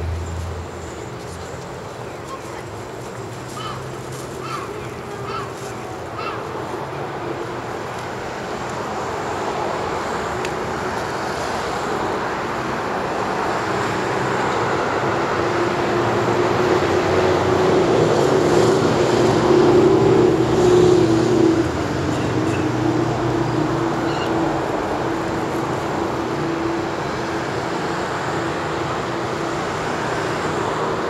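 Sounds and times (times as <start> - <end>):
rush of passing traffic: 0.0 - 31.0
vehicle engine hum: 0.0 - 31.0.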